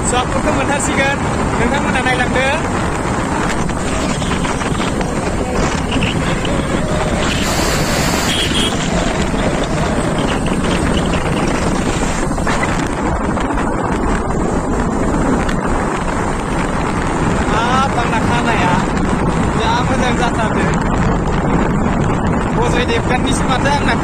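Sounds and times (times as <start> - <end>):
moving vehicle noise: 0.0 - 24.0
wind buffeting microphone: 0.0 - 24.0.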